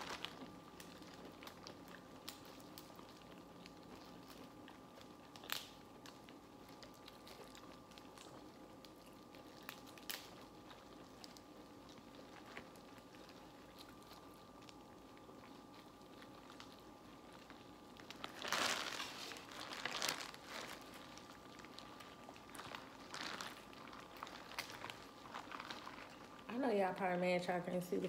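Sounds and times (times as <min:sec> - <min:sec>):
crab shells cracking and crunching: 0:00.0 - 0:26.5
faint steady hum: 0:00.0 - 0:28.0.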